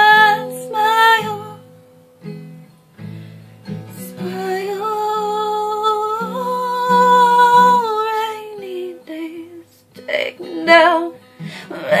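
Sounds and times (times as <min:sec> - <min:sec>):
acoustic guitar chords: 0:00.0 - 0:12.0.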